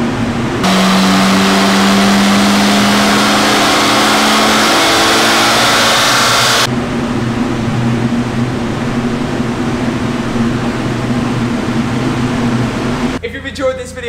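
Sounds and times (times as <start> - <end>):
machinery hum: 0.0 - 13.2.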